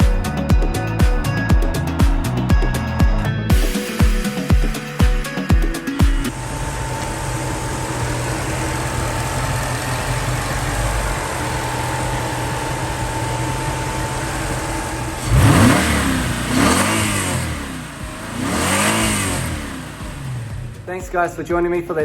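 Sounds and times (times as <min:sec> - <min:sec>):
car engine idling and revving: 0:00.0 - 0:21.1.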